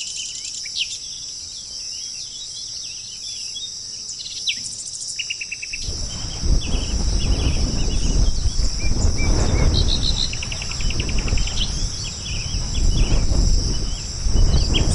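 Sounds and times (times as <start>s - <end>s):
insect buzz: 0.0s - 14.9s
small birds chirping: 0.0s - 14.9s.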